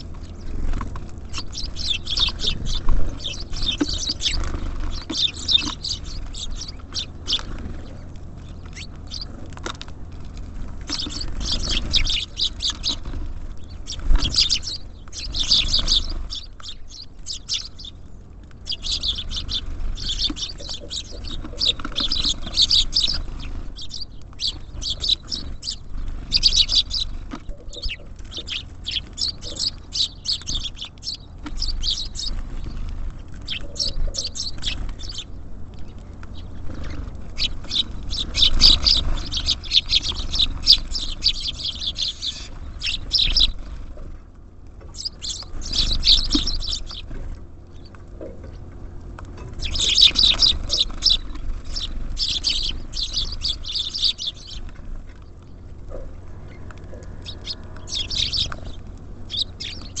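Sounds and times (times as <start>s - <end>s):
low steady rumble: 0.0s - 60.0s
small songbirds chirping: 0.0s - 60.0s.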